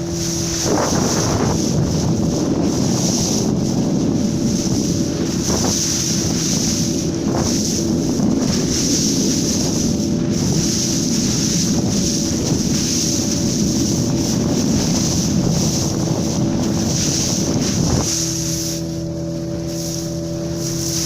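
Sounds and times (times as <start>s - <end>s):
engine hum: 0.0s - 21.0s
water rushing along hull: 0.0s - 21.0s
wind buffeting microphone: 0.0s - 21.0s.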